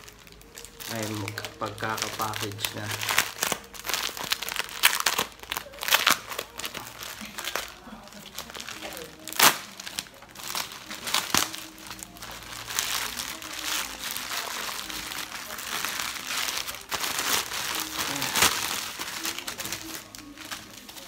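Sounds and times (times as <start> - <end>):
bubble wrap rustling: 0.0 - 21.0
plastic pouch crinkling: 0.0 - 21.0.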